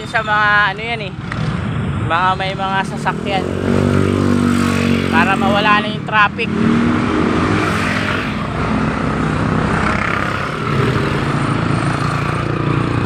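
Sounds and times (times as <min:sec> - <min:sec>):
road noise: 0:00.0 - 0:13.0
vehicle engines running: 0:00.0 - 0:13.0
vehicle passing: 0:01.3 - 0:13.0.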